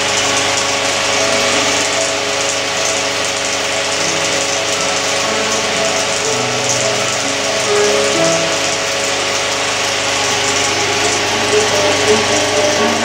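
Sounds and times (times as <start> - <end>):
film projector whirring: 0.0 - 13.0.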